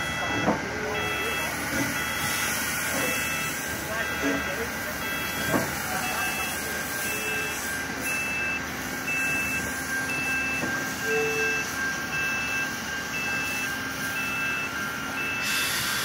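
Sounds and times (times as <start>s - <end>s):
high electronic beep: 0.0s - 15.7s
lower quicker beep: 0.0s - 15.8s.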